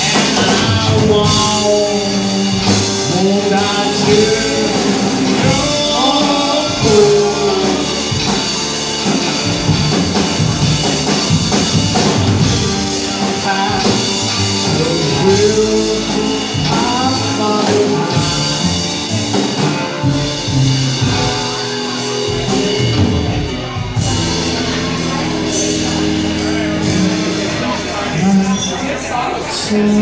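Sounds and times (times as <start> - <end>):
person singing: 0.0 - 9.2, 12.8 - 22.7, 24.0 - 30.0
drums: 0.0 - 30.0
electric guitar: 0.0 - 30.0
upright bass: 0.0 - 30.0.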